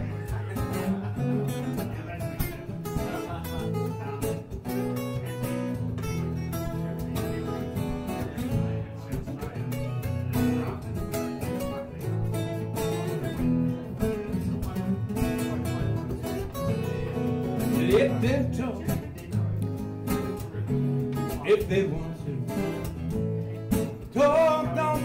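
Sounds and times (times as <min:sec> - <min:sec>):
acoustic guitar strumming blues: 0:00.0 - 0:25.0.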